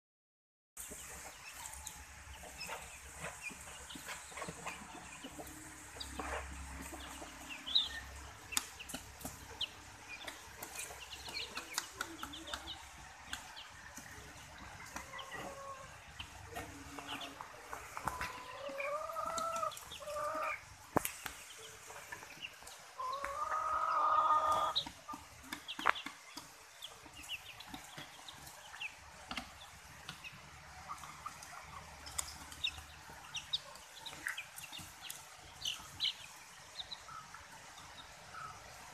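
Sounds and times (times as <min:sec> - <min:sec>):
chicks peeping: 0:00.8 - 0:38.9
drawn-out chicken calls: 0:00.8 - 0:38.9
hens clucking: 0:00.8 - 0:38.9.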